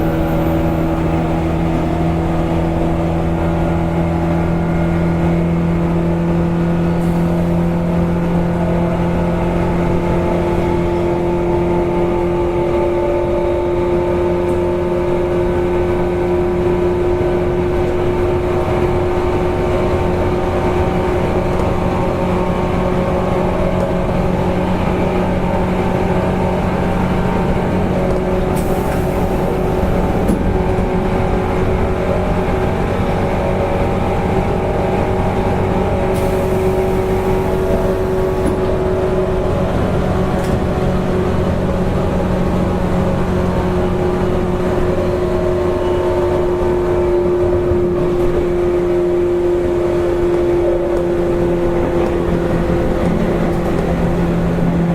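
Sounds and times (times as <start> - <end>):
train motor and gear whine: 0.0 - 54.9
wheel and rail rumble: 0.0 - 54.9.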